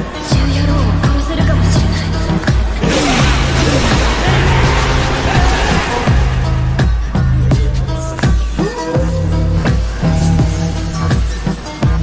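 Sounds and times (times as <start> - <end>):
music with deep bass and drums: 0.3 - 12.0.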